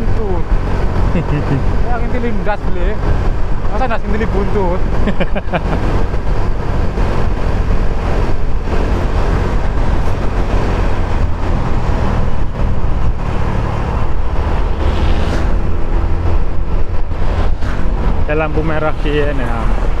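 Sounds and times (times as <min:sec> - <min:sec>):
motorcycle engine: 0:00.0 - 0:20.0
wind rush on microphone: 0:00.0 - 0:20.0.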